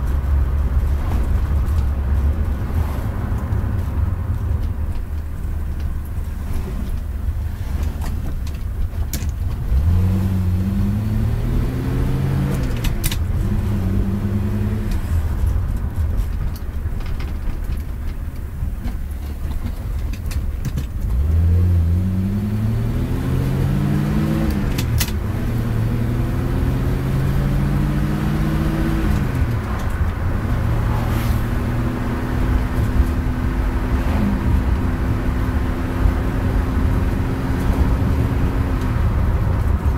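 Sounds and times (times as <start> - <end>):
car engine accelerating: 0.0 - 18.6, 20.9 - 39.9.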